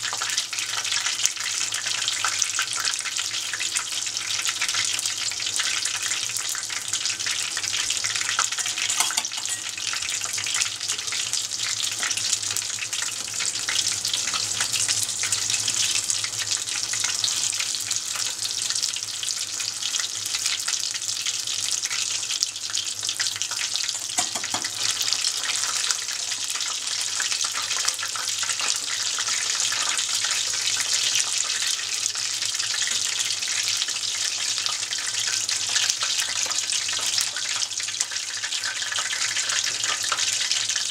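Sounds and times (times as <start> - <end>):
food deep-frying in oil: 0.0 - 40.9.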